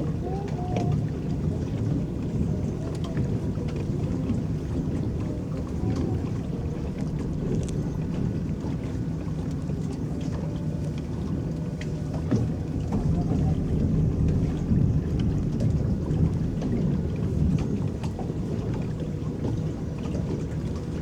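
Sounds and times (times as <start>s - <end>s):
paddles churning water: 0.0s - 21.0s
small water splashes: 0.0s - 21.0s.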